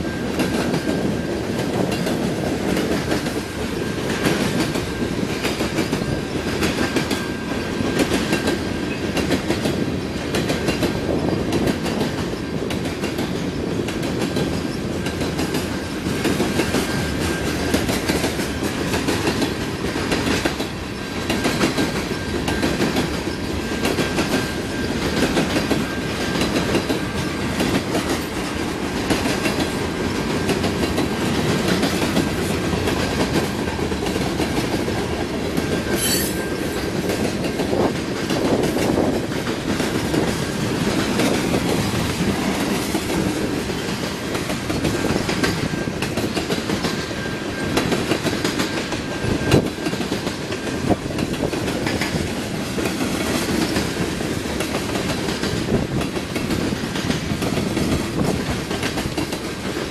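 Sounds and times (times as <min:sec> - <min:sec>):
freight train rumbling past: 0:00.0 - 0:59.9
wheels clacking over rail joints: 0:00.0 - 0:59.9.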